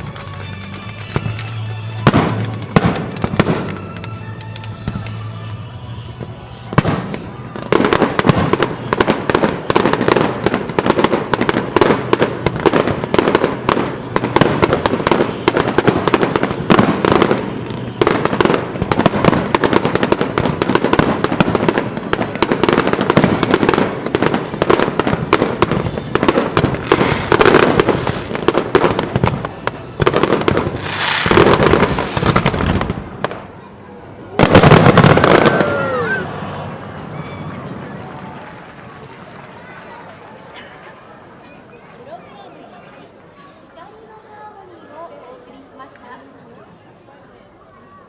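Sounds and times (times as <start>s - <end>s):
fireworks bangs and crackles: 0.0s - 46.8s.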